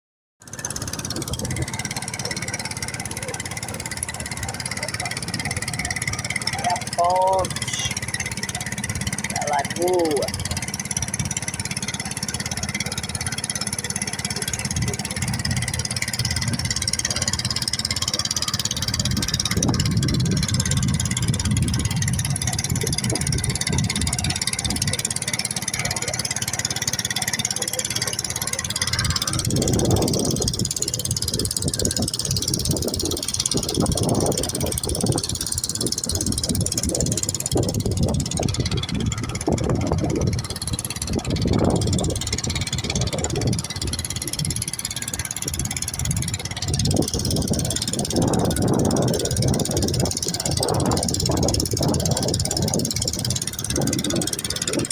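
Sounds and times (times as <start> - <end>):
low rumbles: 0.4 - 54.9
motorboat engine humming: 0.4 - 54.9.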